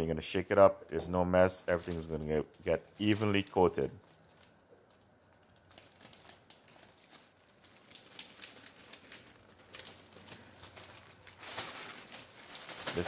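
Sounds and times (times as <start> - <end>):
plastic bag crinkling: 1.6 - 13.0.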